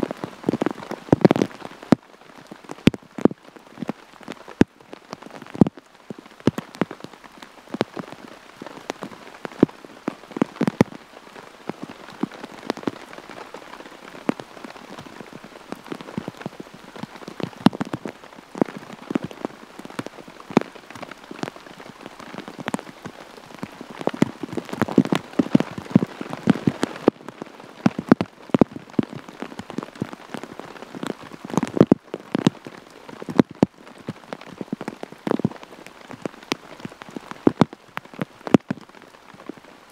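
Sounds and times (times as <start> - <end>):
heavy rain falling: 0.0 - 39.9
raindrops tapping nearby surface: 0.0 - 39.9.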